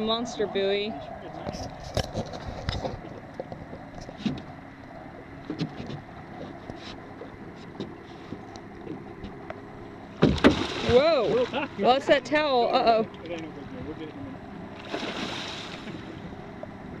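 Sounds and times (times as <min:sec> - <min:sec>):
water around a boat: 0:00.0 - 0:17.0
wind: 0:00.0 - 0:17.0.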